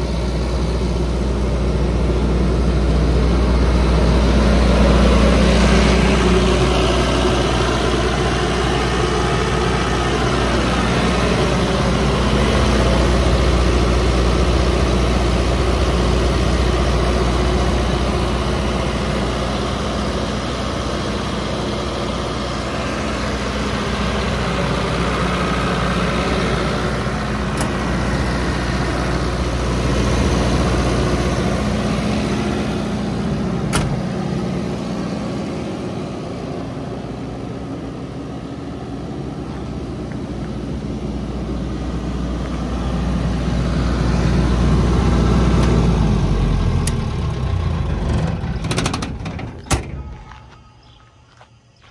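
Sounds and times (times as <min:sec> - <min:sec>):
diesel generator humming: 0:00.0 - 0:51.9.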